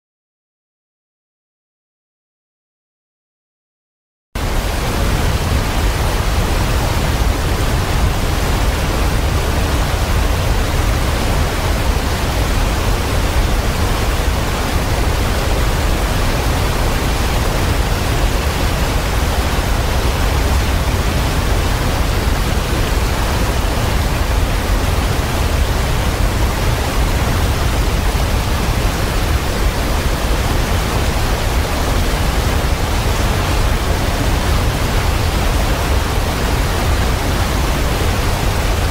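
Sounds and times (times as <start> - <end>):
waterfall rushing: 4.4 - 38.9.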